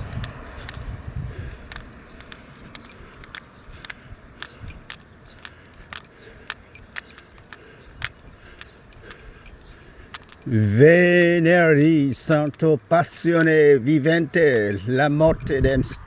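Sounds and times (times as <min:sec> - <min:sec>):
footsteps on paved road: 0:00.0 - 0:16.0.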